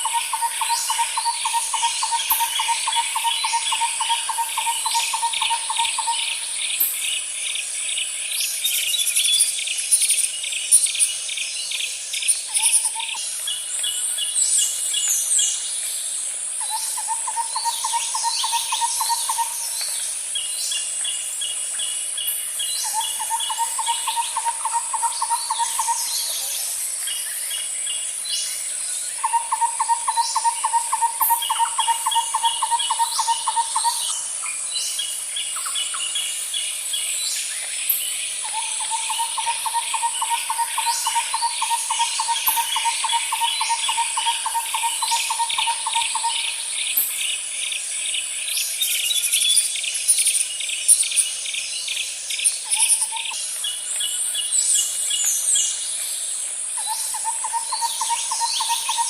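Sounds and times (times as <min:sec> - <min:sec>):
bird chirps: 0:00.0 - 0:07.6, 0:16.6 - 0:36.3, 0:37.0 - 0:56.1, 0:56.8 - 0:59.0
high insect drone: 0:00.0 - 0:59.0.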